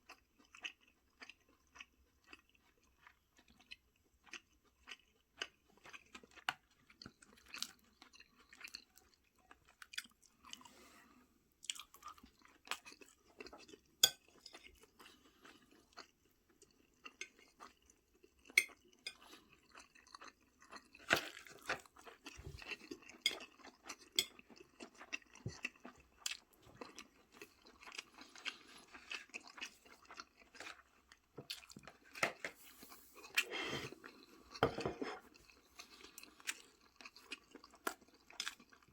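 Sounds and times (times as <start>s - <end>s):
food being chewed and crunched: 0.0s - 38.9s.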